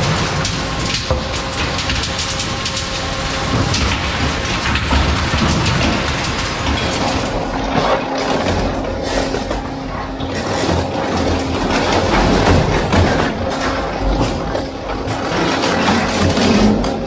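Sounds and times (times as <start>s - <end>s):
low machine rumble: 0.0s - 17.0s
sheet metal crunching: 0.0s - 17.0s.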